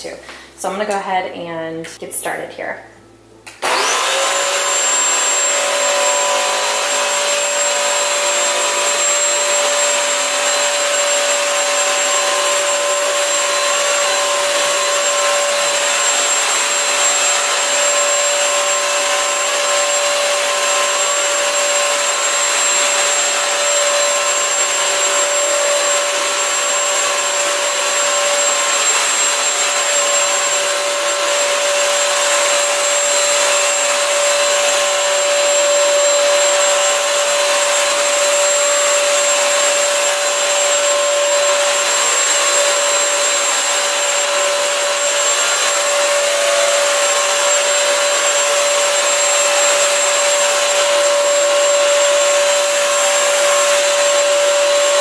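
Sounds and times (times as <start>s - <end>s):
vacuum mop motor whine: 3.5s - 55.0s.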